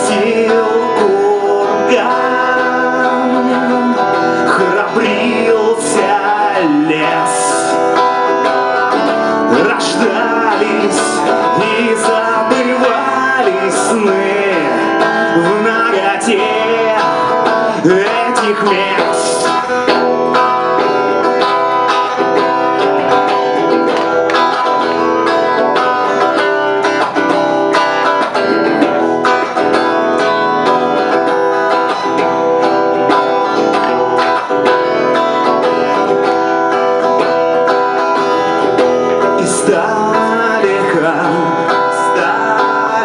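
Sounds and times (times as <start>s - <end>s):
guitar playing: 0.0s - 43.0s.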